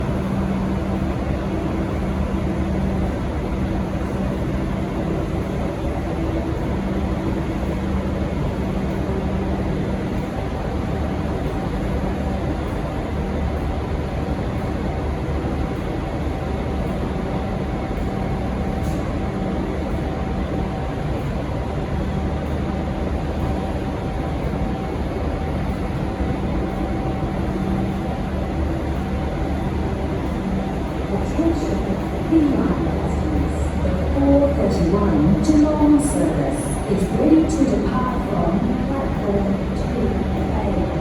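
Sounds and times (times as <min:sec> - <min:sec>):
diesel locomotive idling: 0:00.0 - 0:41.0.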